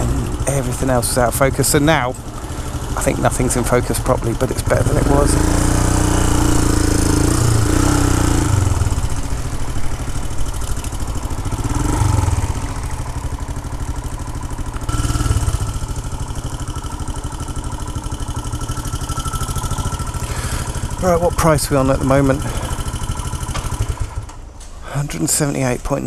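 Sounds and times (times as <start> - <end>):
motorcycle engine pulsing: 0.0 - 24.5.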